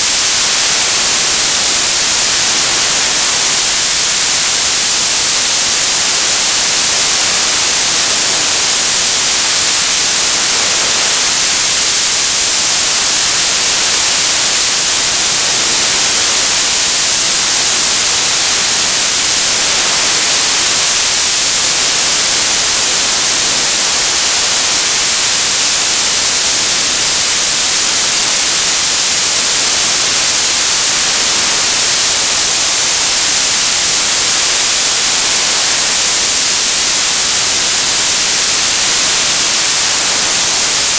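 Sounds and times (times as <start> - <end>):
television static hiss: 0.0 - 40.9.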